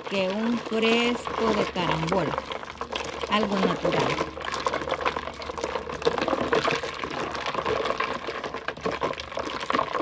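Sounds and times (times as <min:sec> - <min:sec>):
liquid sloshing: 0:00.0 - 0:10.0.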